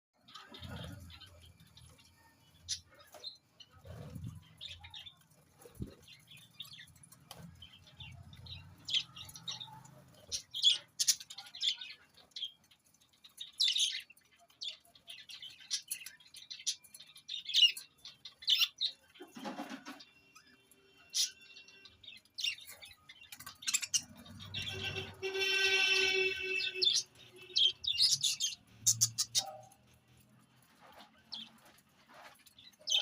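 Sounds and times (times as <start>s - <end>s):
small birds chirping: 0.2s - 33.0s.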